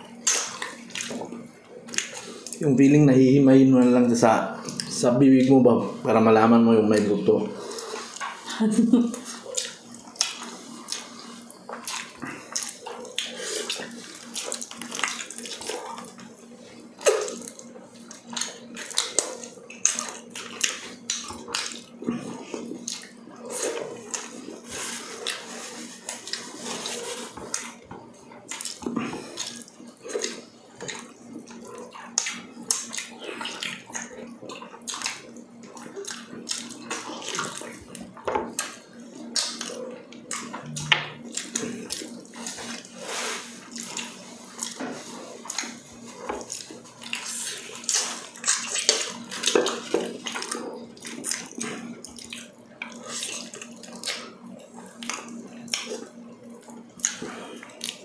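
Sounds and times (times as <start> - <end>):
wet chewing and lip-smacking: 0.1 - 2.6, 4.6 - 5.6, 6.9 - 58.0.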